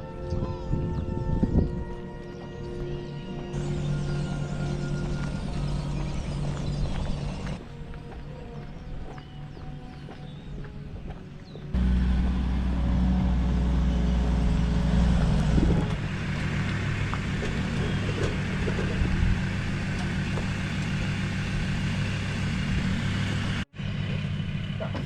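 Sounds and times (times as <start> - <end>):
engine running with low rumble: 0.2 - 25.0.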